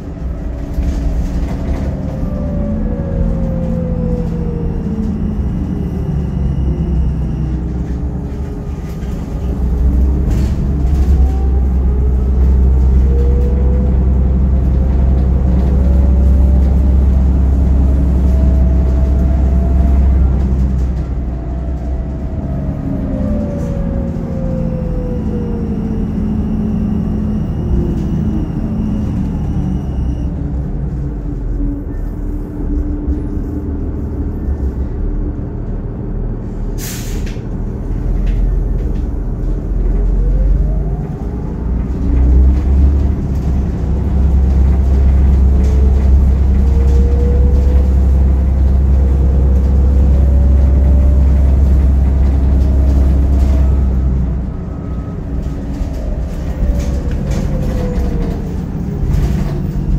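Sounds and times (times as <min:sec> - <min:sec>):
bus engine droning with whine: 0:00.0 - 0:59.9.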